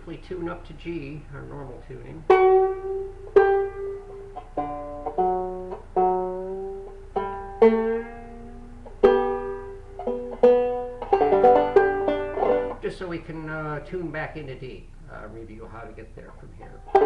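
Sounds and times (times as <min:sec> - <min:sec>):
banjo strings plucked: 0:00.0 - 0:17.0.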